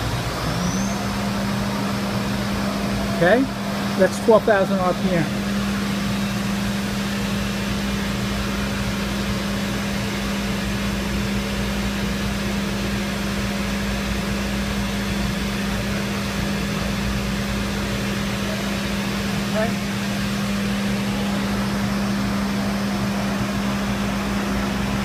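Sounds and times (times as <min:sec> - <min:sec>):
milling spindle running: 0:00.0 - 0:25.0.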